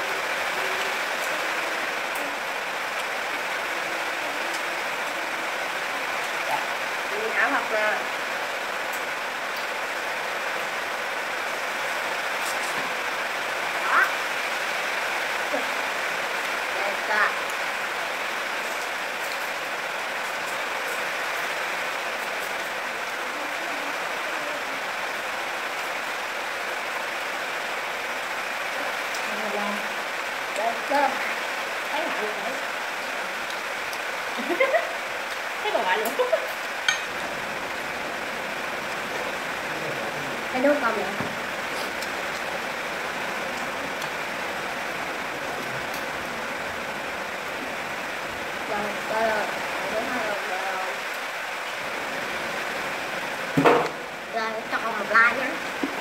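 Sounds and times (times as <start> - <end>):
steady hissing noise: 0.0 - 56.0.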